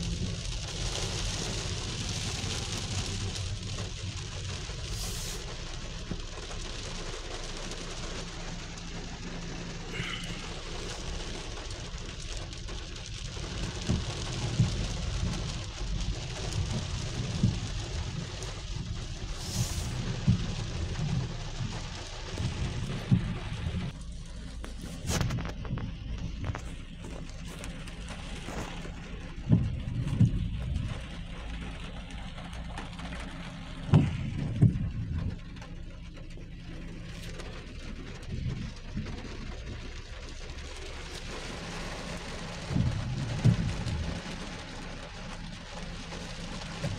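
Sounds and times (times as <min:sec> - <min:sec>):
low engine hum: 0:00.0 - 0:46.9
moving car rumble: 0:00.0 - 0:46.9
rain on car windshield: 0:00.0 - 0:46.9.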